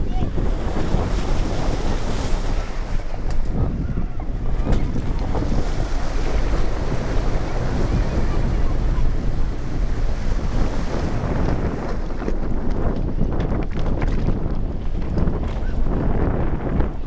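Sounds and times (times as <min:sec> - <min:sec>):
water splashing around vehicle: 0:00.0 - 0:15.3
wind buffeting microphone: 0:00.0 - 0:17.0.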